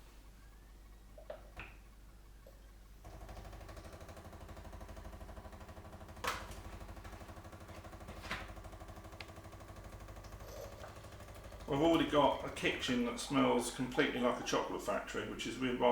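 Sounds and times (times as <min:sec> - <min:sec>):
coffee machine pump humming: 0:00.0 - 0:15.9.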